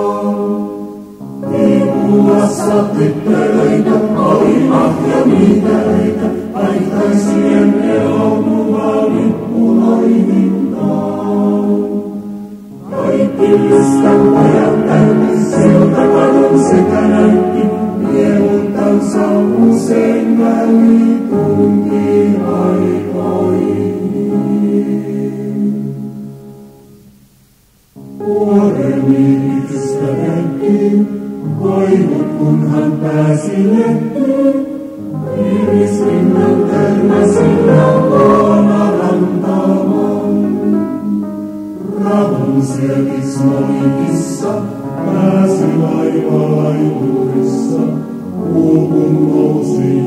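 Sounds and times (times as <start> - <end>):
choir singing: 0.0 - 27.1, 28.1 - 50.0.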